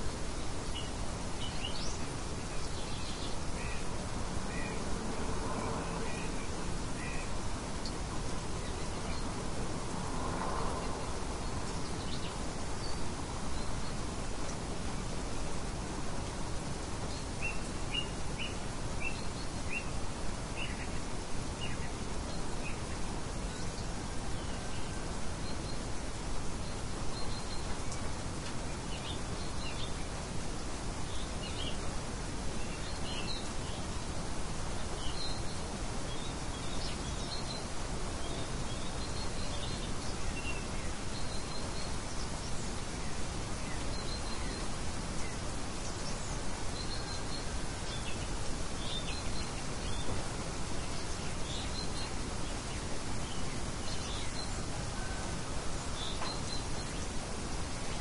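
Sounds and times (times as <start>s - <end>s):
steady rain: 0.0s - 58.0s
small birds chirping: 0.1s - 54.9s, 55.7s - 58.0s.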